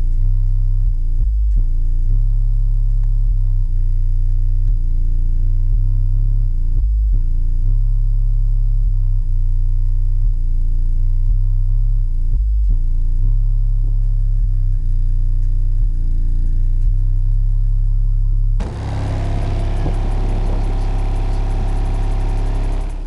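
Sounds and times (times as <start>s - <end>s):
bass-heavy music through car subwoofers: 0.0s - 23.0s.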